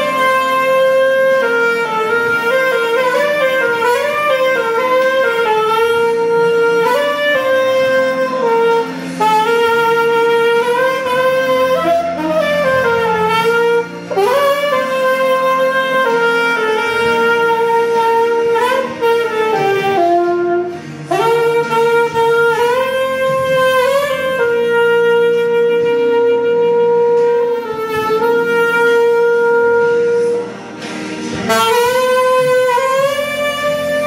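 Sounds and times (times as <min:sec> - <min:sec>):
backing accompaniment: 0:00.0 - 0:34.0
saxophone slow melody: 0:00.0 - 0:34.0.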